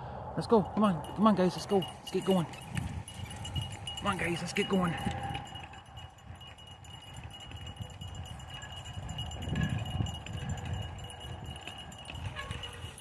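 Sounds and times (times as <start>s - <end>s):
scooter wheels rumbling: 1.9s - 13.0s.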